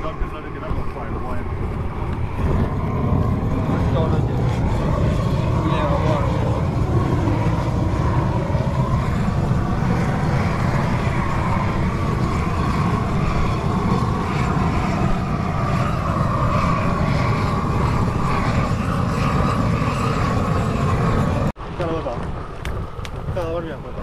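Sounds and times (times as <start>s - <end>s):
propane torch rushing: 0.0s - 24.0s.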